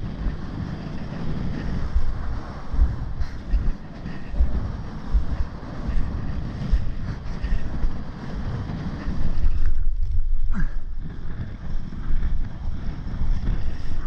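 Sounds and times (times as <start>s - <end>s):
breaking surf: 0.0s - 14.0s
wind buffeting microphone: 0.0s - 14.0s.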